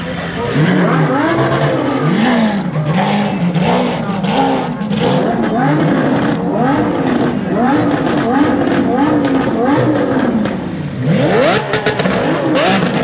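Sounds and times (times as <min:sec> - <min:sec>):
sports car engines revving: 0:00.0 - 0:13.0.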